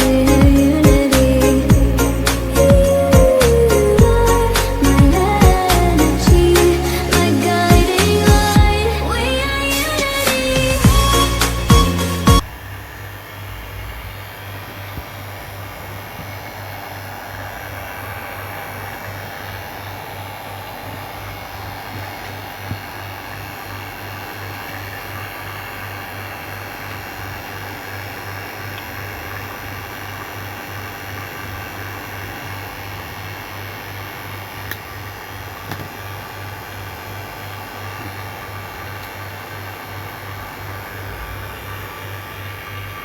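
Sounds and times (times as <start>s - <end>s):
machine running with hiss and hum: 0.0s - 43.0s.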